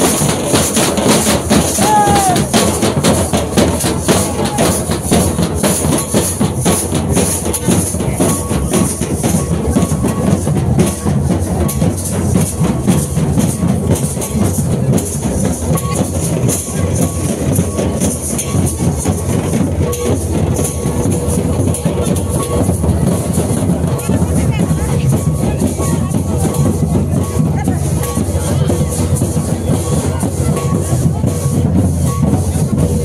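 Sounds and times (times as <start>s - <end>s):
drums beaten in fast rhythm: 0.0s - 33.0s.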